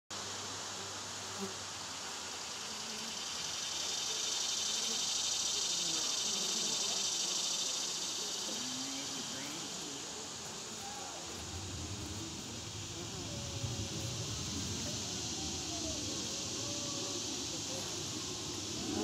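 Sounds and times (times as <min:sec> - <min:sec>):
cicada drone: 0:00.1 - 0:19.0
honey bees buzzing: 0:01.2 - 0:19.0.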